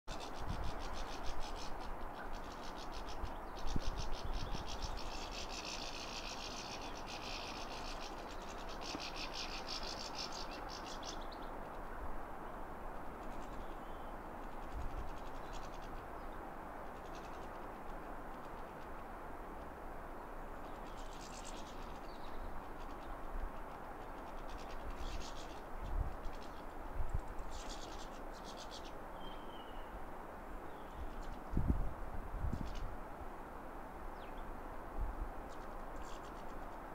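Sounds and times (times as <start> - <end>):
steady background hiss: 0.1 - 36.9.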